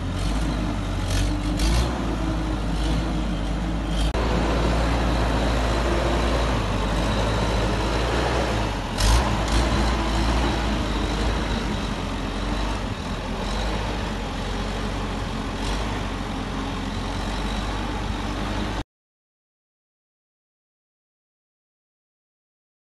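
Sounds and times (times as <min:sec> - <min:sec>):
diesel engine running: 0:00.0 - 0:18.8.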